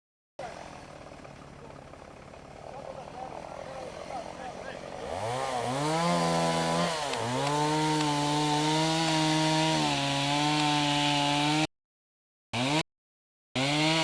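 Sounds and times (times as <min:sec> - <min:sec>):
chainsaw running at high revs: 0:00.4 - 0:11.7, 0:12.6 - 0:12.8, 0:13.6 - 0:14.0.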